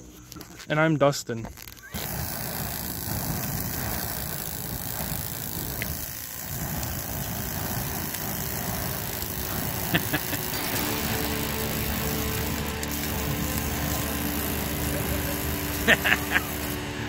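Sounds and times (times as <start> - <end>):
flamethrower jet rushing: 1.6 - 17.0.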